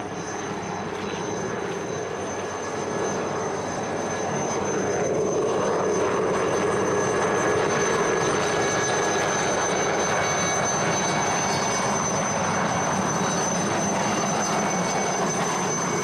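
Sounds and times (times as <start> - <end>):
helicopter turbine and rotor: 0.0 - 16.0.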